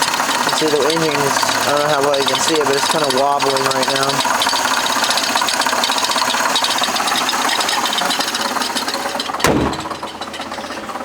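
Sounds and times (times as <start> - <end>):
car engine idling: 0.0 - 11.0
fast rattle from engine: 0.0 - 11.0.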